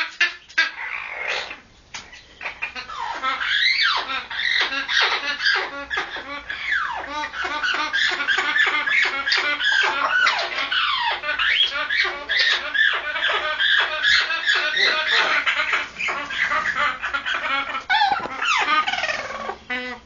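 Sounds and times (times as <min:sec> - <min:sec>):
parrot chattering and whistling: 0:00.0 - 0:20.0.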